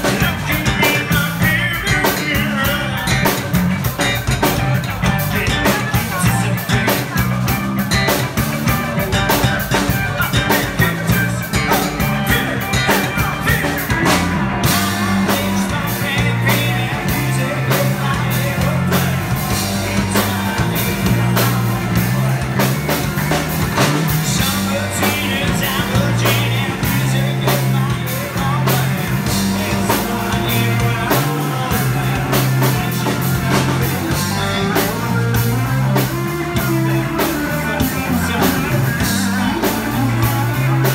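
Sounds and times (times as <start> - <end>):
bass line: 0.0 - 40.9
drum beat: 0.0 - 40.9
electric guitars: 0.0 - 40.9
person singing: 0.0 - 40.9.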